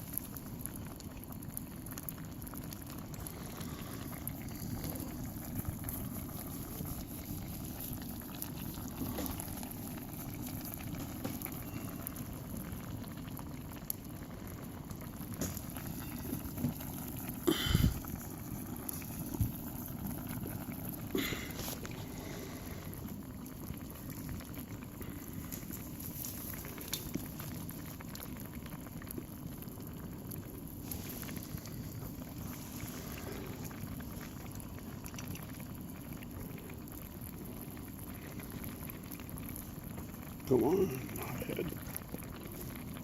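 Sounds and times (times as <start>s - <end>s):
stew bubbling in a pot: 0.0s - 43.0s.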